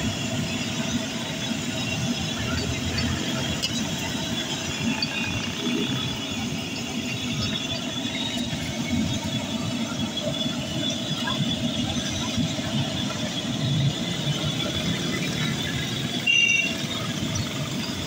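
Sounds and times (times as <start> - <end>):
street traffic din: 0.0 - 18.0.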